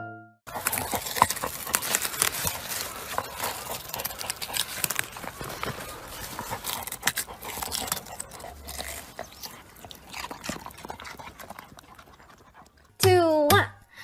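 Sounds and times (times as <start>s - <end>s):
dog crunching root vegetable: 0.5s - 13.0s.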